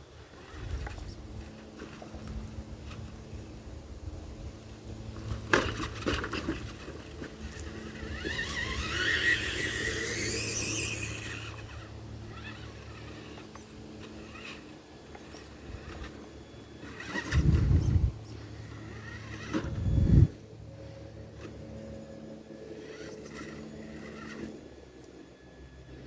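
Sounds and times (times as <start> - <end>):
toy truck motor whining: 0.1 - 3.7, 4.3 - 25.3.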